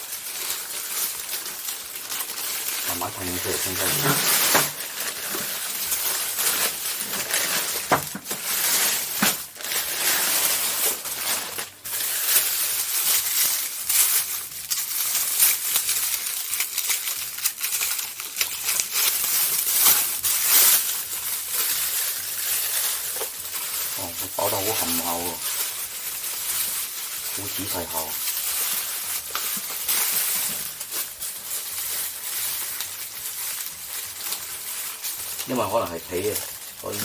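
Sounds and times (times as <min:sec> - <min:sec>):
packaging crinkling and rustling: 0:00.0 - 0:37.0
sharp crackles and clicks: 0:00.0 - 0:37.0.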